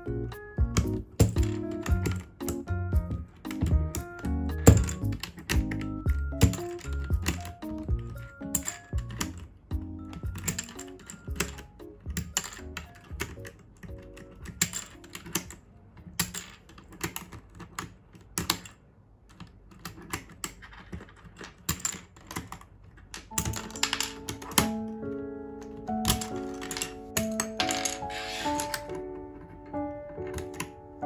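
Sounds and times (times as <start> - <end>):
soft background music: 0.0 - 17.7, 23.2 - 31.0.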